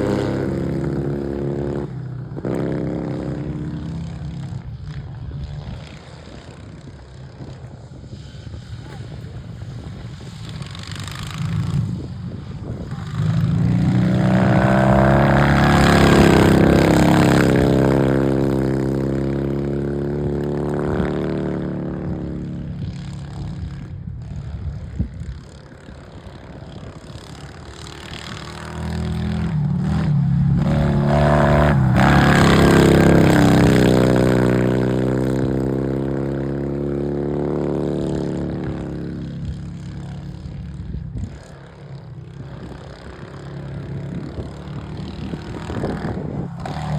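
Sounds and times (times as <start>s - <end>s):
racing lawnmower engine passing: 0.0s - 46.9s.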